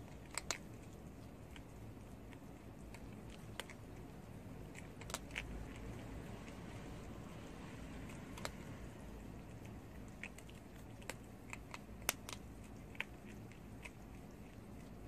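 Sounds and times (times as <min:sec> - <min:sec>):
animal teeth crunching food: 0:00.0 - 0:07.2, 0:07.8 - 0:15.0.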